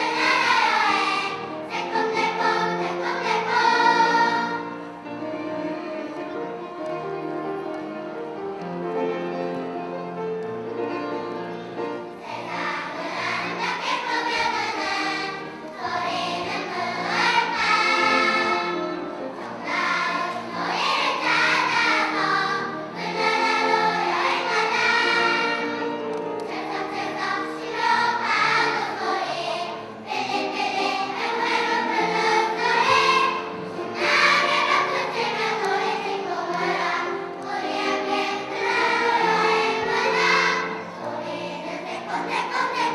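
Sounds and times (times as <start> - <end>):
children's choir singing: 0.0 - 42.9
instrumental accompaniment: 0.0 - 42.9.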